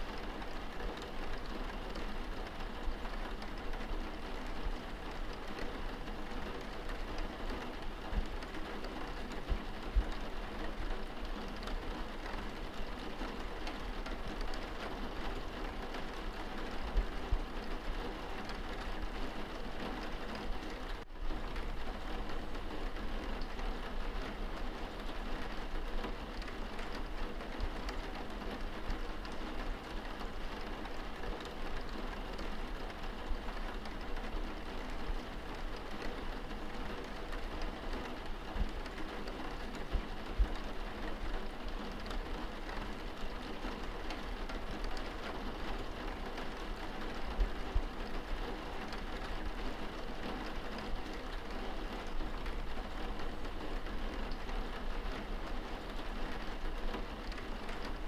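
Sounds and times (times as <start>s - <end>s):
rain on window glass: 0.0s - 58.0s.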